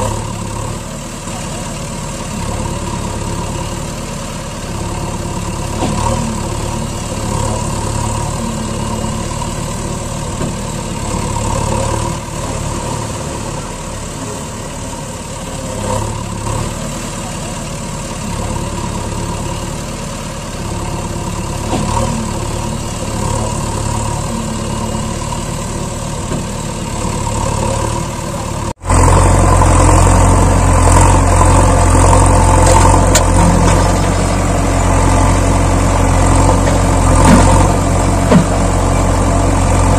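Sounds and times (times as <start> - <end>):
deep loud engine: 0.0 - 39.9
heavy vehicle engine running: 0.0 - 39.9.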